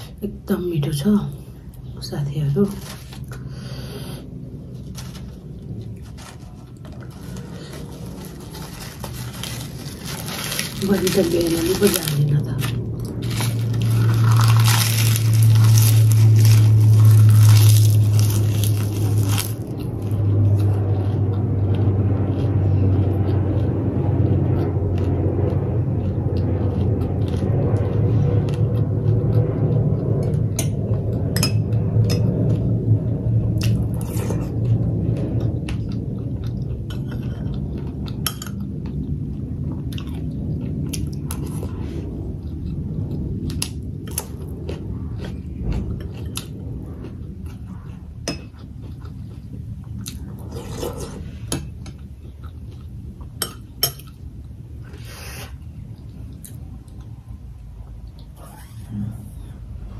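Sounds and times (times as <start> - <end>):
low rumble: 0.0 - 59.9
chewing and smacking food: 4.3 - 54.9, 55.5 - 58.4.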